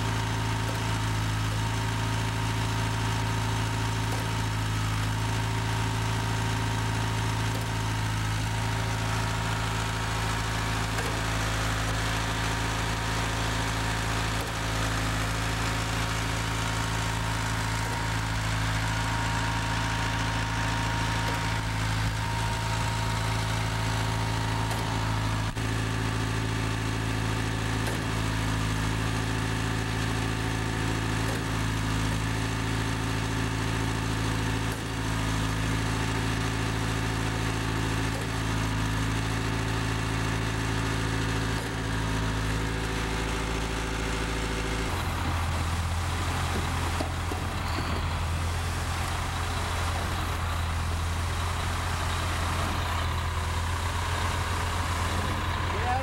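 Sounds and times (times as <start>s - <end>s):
pump engine running steadily: 0.0s - 56.0s.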